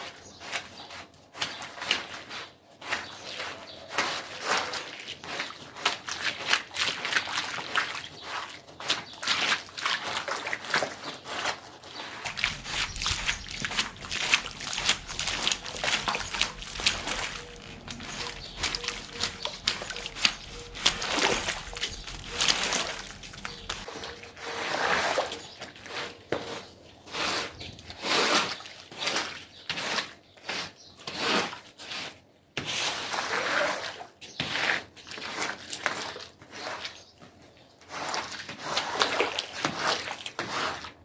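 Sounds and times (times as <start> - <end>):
scrubbing wet carpet: 0.0 - 37.0, 37.8 - 41.0
water sloshing and trickling: 0.5 - 30.2, 33.0 - 41.0.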